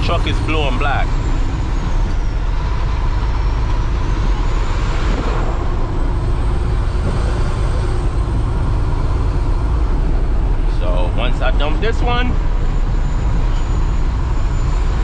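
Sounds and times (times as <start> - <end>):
diesel truck engine under load: 0.0 - 15.0
truck passing: 0.0 - 15.0
tyres on gravel road: 0.0 - 15.0.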